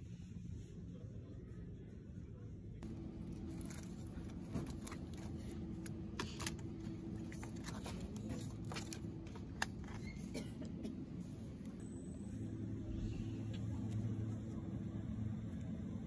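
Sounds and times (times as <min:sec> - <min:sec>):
low hum: 0:02.8 - 0:16.0.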